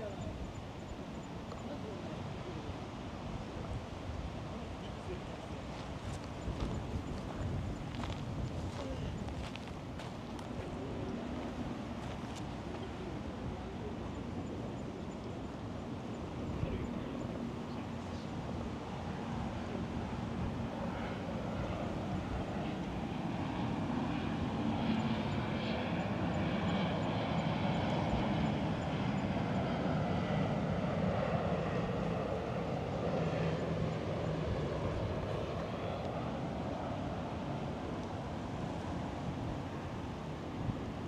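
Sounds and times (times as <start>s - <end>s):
distant engine drone: 0.0s - 41.0s.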